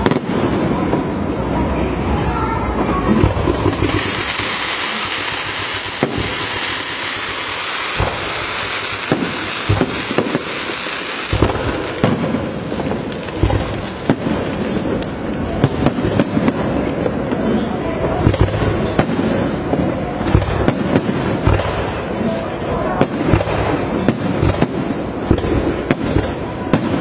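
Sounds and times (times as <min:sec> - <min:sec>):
loud firecracker bangs: 0:00.0 - 0:01.6, 0:02.8 - 0:27.0
firecrackers crackling: 0:00.0 - 0:27.0.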